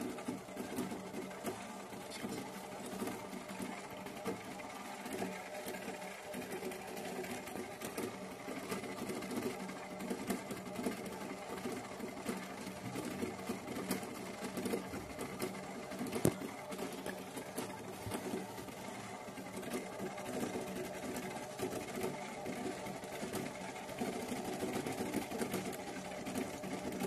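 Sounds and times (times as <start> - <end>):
toy washing machine whirring: 0.0 - 27.0.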